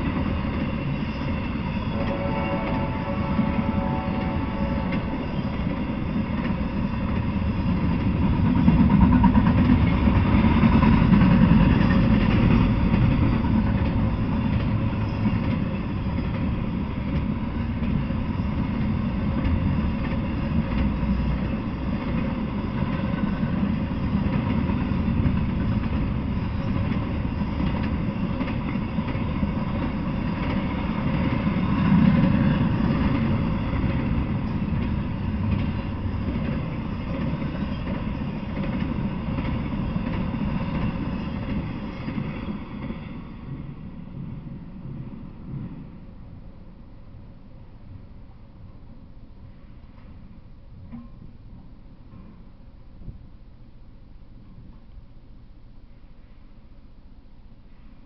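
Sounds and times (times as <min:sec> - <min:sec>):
freight train rumbling past: 0:00.0 - 0:55.2.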